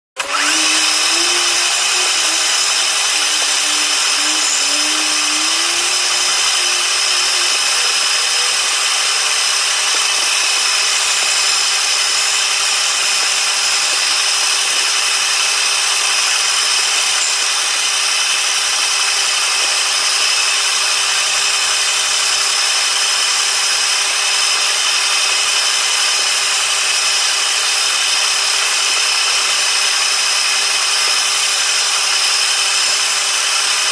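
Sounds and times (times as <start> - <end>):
wood lathe running: 0.2 - 33.9.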